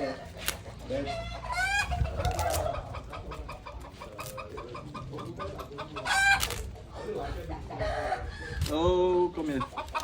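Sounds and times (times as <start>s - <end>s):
rapid clucking: 0.0s - 10.0s.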